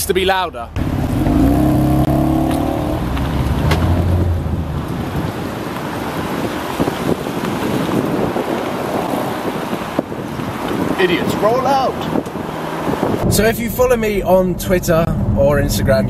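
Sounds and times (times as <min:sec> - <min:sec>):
car engine hum: 0:00.0 - 0:16.0
wind buffeting microphone: 0:01.3 - 0:16.0.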